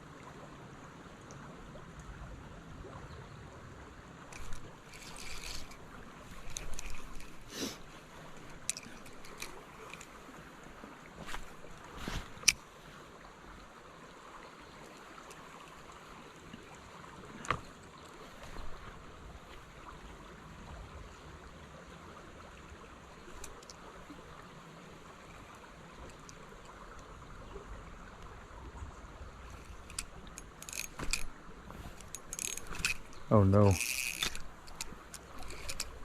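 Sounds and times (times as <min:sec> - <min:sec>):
creek water running: 0:00.0 - 0:36.0.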